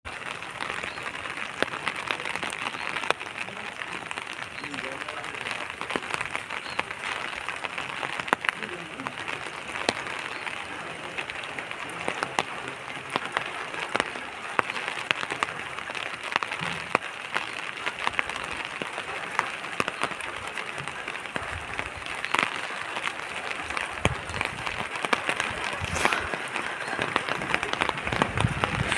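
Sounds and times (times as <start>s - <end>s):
heavy rain on hard surfaces: 0.0s - 28.9s.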